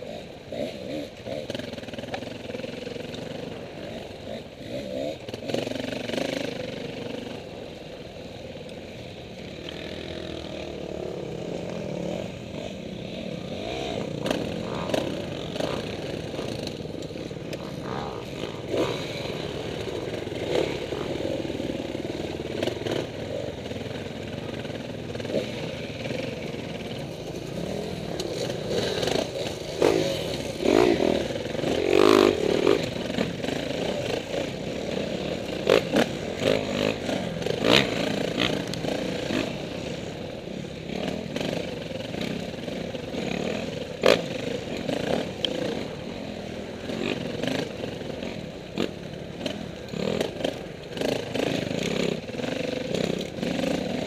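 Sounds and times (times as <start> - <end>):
dirt bike engine revving: 0.0 - 8.4, 9.4 - 54.0.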